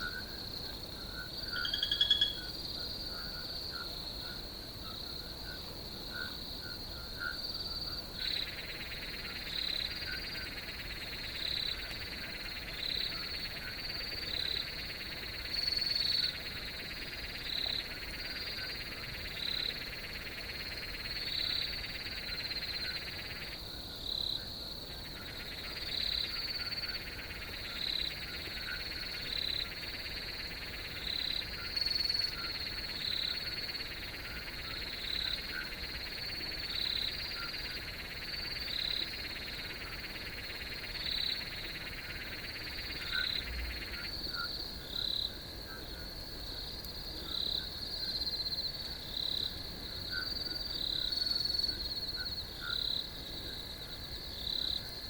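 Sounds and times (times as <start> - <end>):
crickets trilling: 0.0 - 55.0
lower buzzing insect chorus: 0.0 - 55.0.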